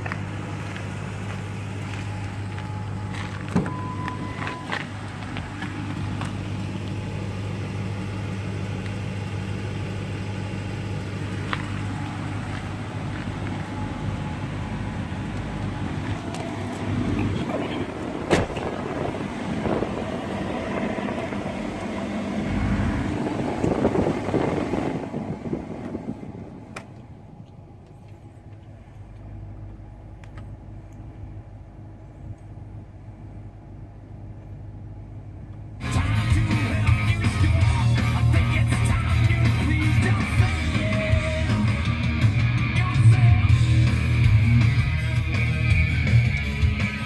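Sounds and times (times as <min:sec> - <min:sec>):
truck engine idling: 0:00.0 - 0:47.0.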